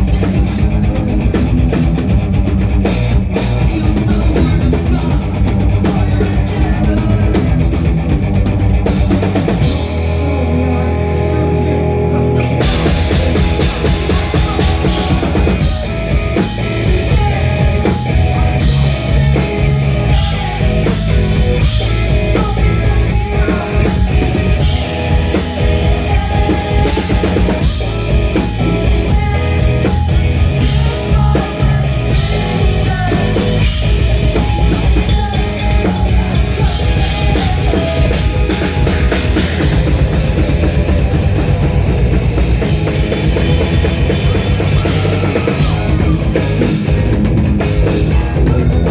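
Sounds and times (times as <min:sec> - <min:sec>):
drum kit pounding: 0:00.0 - 0:10.6, 0:12.6 - 0:48.9
distorted guitars: 0:00.0 - 0:48.9
person singing: 0:03.6 - 0:07.9, 0:09.7 - 0:40.6, 0:42.6 - 0:47.1, 0:47.9 - 0:48.9.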